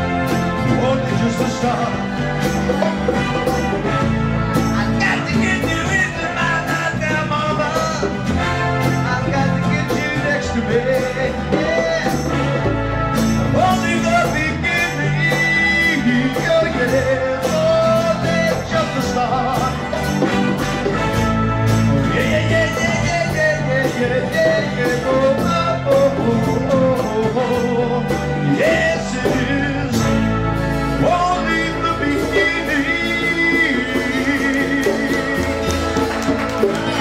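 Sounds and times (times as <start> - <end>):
acoustic guitars strummed: 0.0 - 37.0
congas and timbales: 0.0 - 37.0
man singing into microphone: 0.4 - 3.1, 4.7 - 12.6, 13.5 - 20.2, 22.0 - 36.0.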